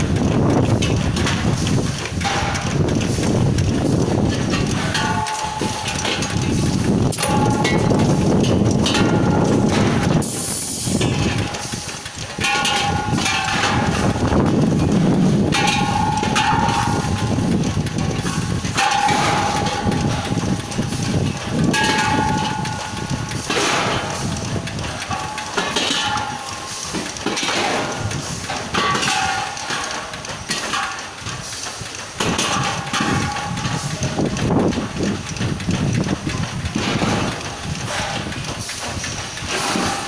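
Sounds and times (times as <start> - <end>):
chain conveyor rattling: 0.0 - 40.0
metal cylinders clanking: 0.0 - 40.0.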